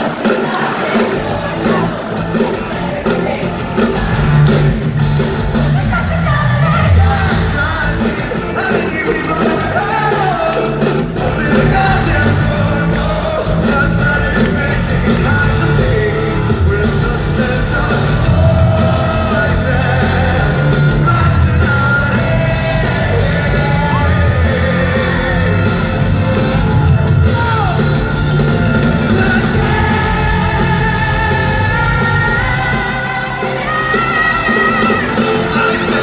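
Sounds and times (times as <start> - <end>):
crowd yelling: 0.0 - 36.0
drums: 0.0 - 36.0
lead singer singing: 0.0 - 36.0
live rock band: 0.0 - 36.0.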